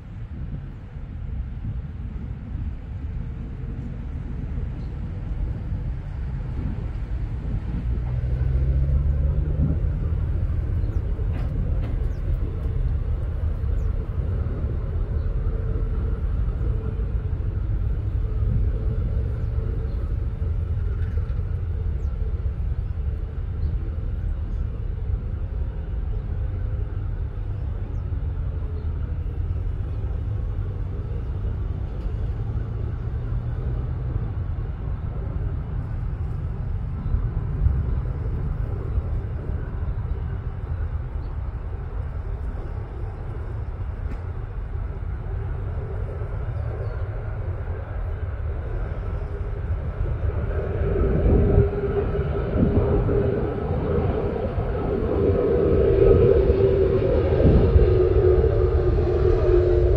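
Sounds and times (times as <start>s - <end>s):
faint engine whine: 0.0s - 59.9s
jet rumble: 0.0s - 59.9s.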